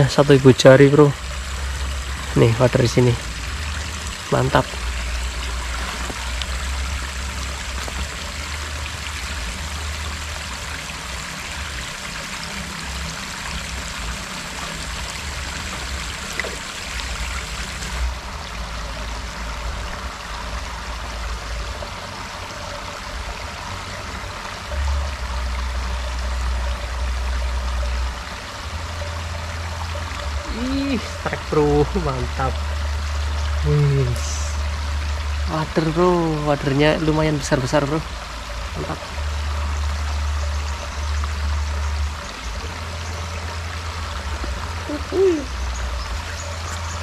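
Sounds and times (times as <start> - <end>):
water rushing in a stream: 0.0 - 47.0.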